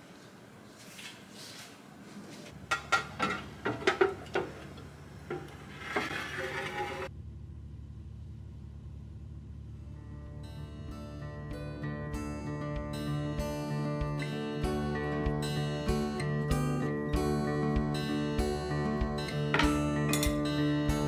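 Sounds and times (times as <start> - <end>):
steady low hum: 2.5 - 21.0.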